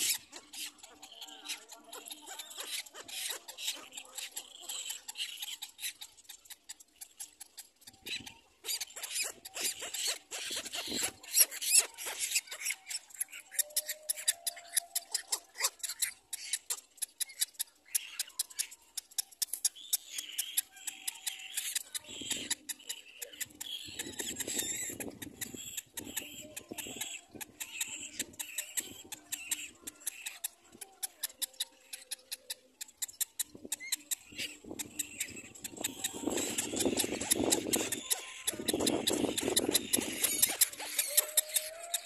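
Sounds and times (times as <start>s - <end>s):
chicks squeaky begging calls: 0.0s - 42.0s.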